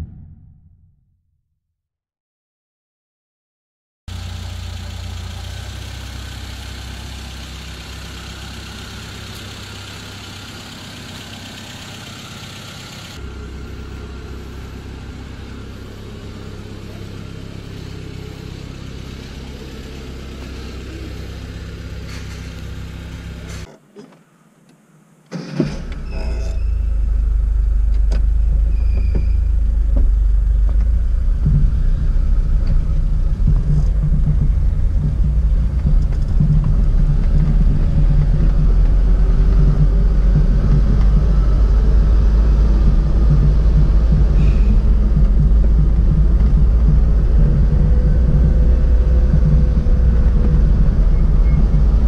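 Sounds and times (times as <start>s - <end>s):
car engine and road noise inside cabin: 4.1s - 52.0s.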